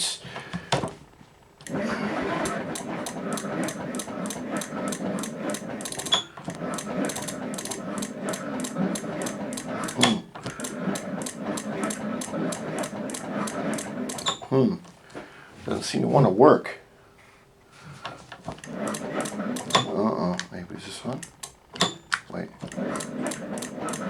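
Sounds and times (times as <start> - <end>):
engine cranking on electric starter: 1.6 - 16.1, 18.0 - 24.0.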